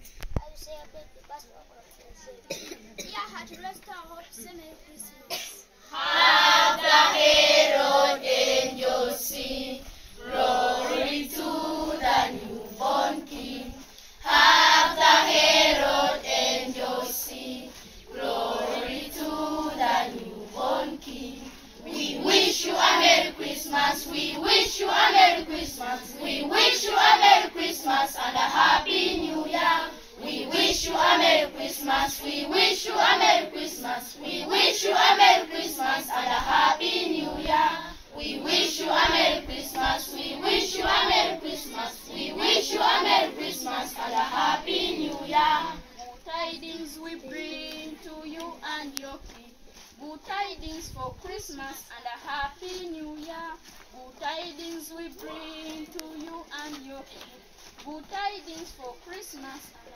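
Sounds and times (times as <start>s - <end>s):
children's choir singing: 5.3s - 59.9s.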